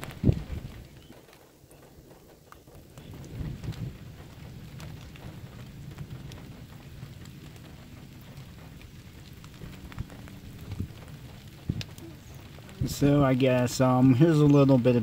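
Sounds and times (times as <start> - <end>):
rain falling: 0.0 - 15.0
raindrop taps: 0.0 - 15.0.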